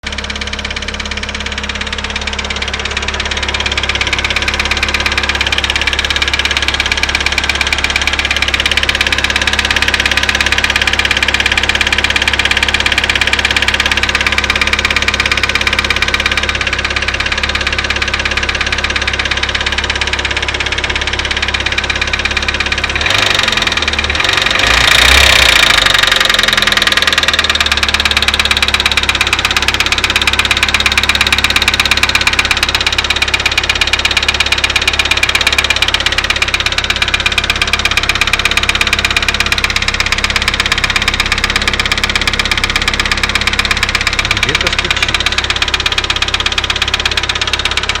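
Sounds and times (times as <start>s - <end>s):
car engine running: 0.0s - 48.0s
rapid ticking engine knock: 0.0s - 48.0s.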